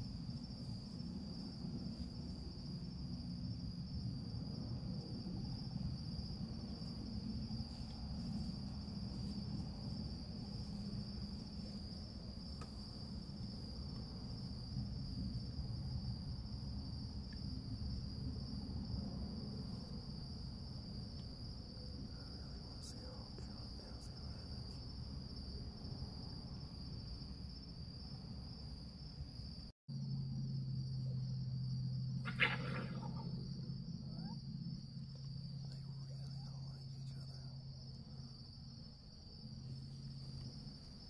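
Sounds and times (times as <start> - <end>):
low steady rumble: 0.0 - 24.8, 28.1 - 41.0
insects trilling: 0.0 - 41.0.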